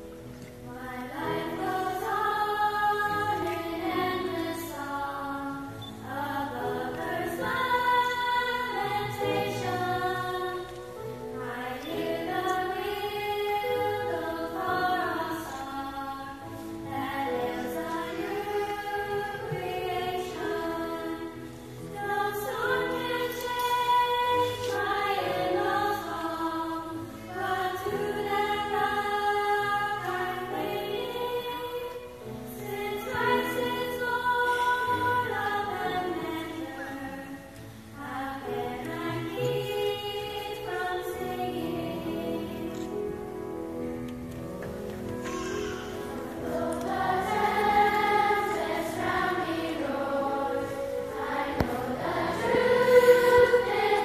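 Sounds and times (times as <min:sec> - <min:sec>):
children's choir singing: 0:00.0 - 0:43.9, 0:44.6 - 0:54.0.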